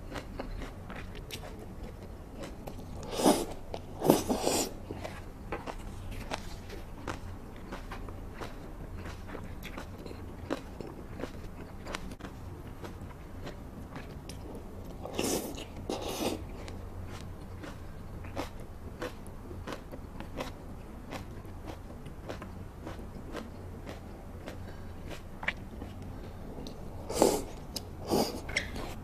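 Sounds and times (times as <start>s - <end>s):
low steady hum: 0.0s - 29.0s
wet chewing: 0.0s - 29.0s.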